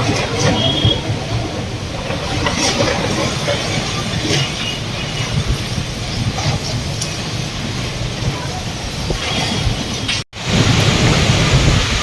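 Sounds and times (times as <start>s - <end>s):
storm wind and rain: 0.0s - 12.0s.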